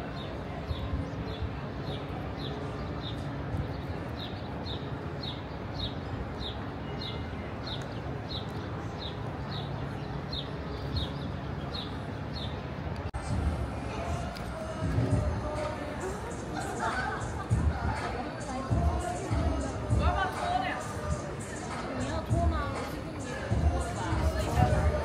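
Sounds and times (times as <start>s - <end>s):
street noise: 0.0s - 25.0s.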